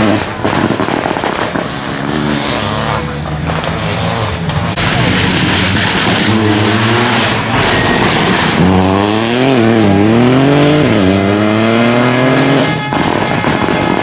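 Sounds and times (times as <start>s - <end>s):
rally car engine accelerating: 0.0s - 13.2s.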